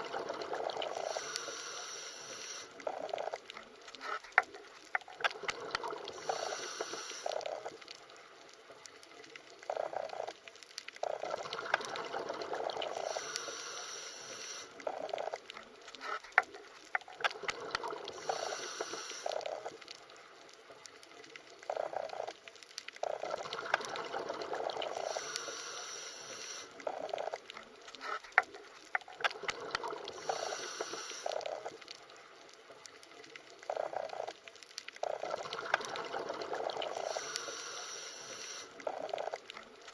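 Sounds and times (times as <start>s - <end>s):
underwater bubbling and gurgling: 0.0s - 39.9s
sharp underwater clicks: 2.3s - 39.9s.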